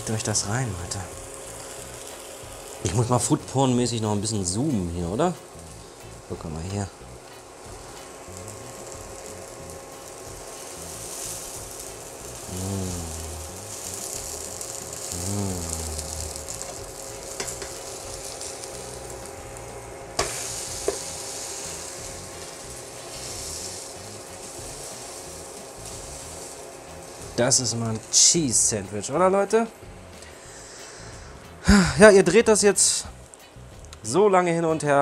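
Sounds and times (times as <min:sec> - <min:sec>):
sandwich sizzling in a pan: 0:00.0 - 0:29.5.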